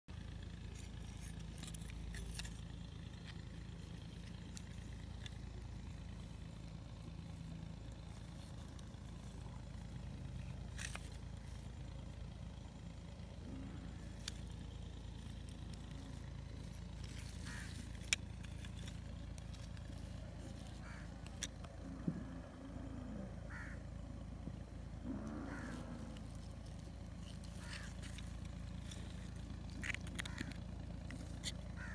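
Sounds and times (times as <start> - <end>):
low outdoor background rumble: 0.0 - 31.9.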